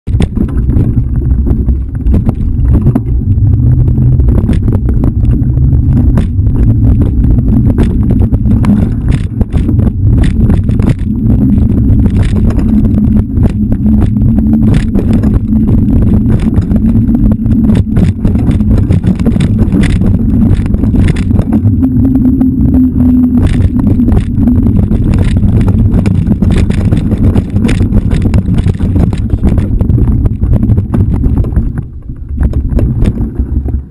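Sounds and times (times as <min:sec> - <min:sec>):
low rumble and buffeting: 0:00.0 - 0:33.9
bike clicks and rattles: 0:00.1 - 0:33.9
thin high whine: 0:00.3 - 0:31.4.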